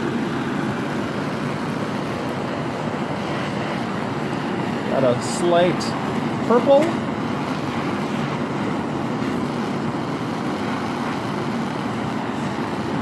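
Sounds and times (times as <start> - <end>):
torch roaring: 0.0 - 13.0.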